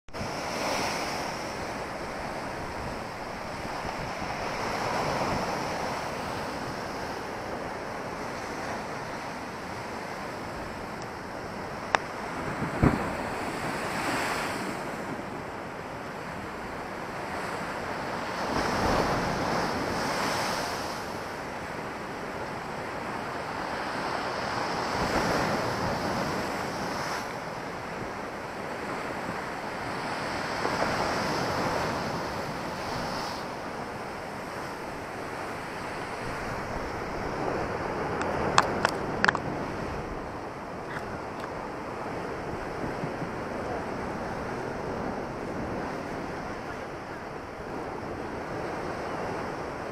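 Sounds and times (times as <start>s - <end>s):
wind on microphone: 0.1s - 49.9s.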